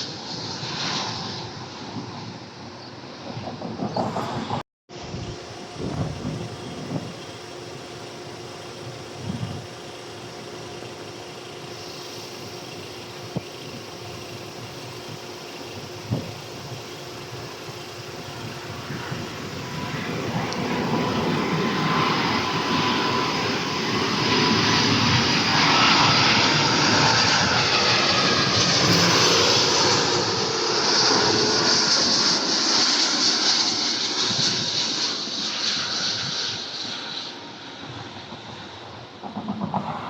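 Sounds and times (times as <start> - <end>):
jet airliner engines rushing: 0.0 - 40.0.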